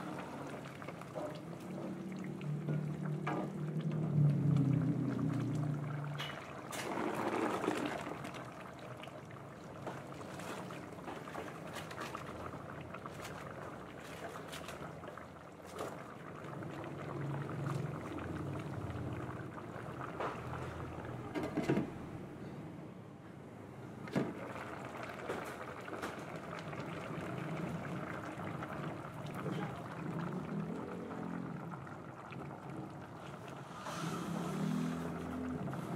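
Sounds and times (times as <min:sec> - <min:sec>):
stew simmering and bubbling: 0:00.0 - 0:22.3, 0:23.6 - 0:35.9.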